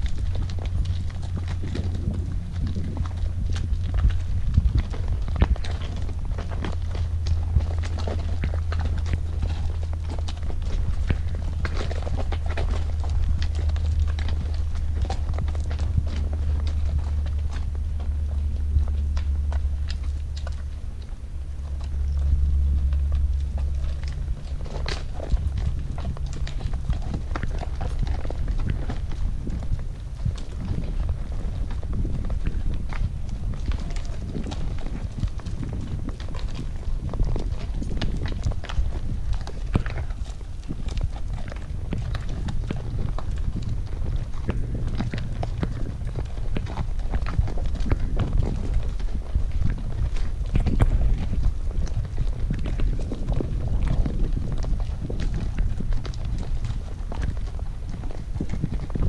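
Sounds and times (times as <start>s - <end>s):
hooves clopping on stone: 0.0s - 59.0s
steady low rumble: 0.0s - 59.0s.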